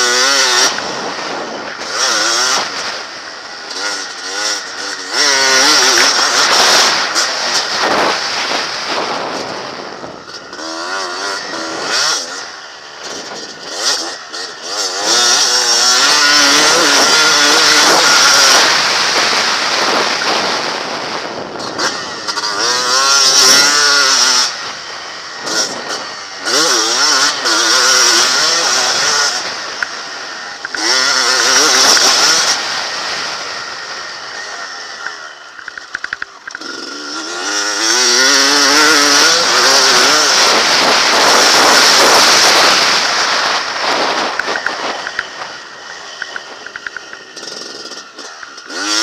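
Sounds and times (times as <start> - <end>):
motocross bike engine revving: 0.0 - 49.0.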